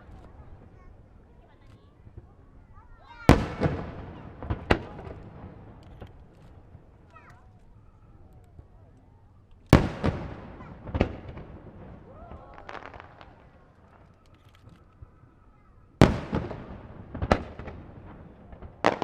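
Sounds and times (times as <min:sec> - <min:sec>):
firework crackling: 0:00.0 - 0:19.0
firework shells bursting: 0:03.1 - 0:19.0.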